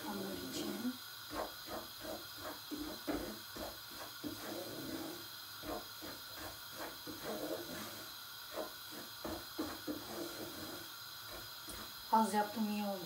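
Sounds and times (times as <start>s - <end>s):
wooden spoon scraping a pot: 0.1s - 12.0s.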